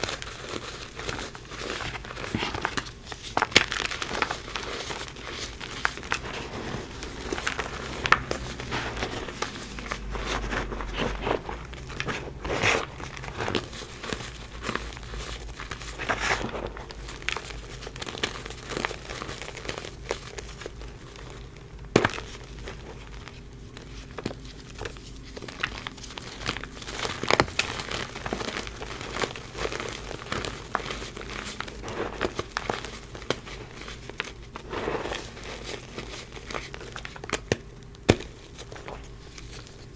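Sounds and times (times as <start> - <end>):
chalk crunching and crackling: 0.0 - 39.9.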